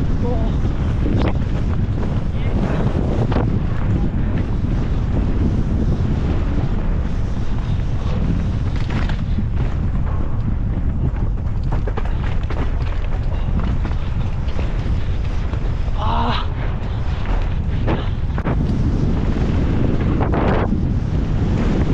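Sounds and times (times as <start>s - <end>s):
bike knocking and rattling: 0.0s - 21.9s
wind buffeting microphone: 0.0s - 21.9s.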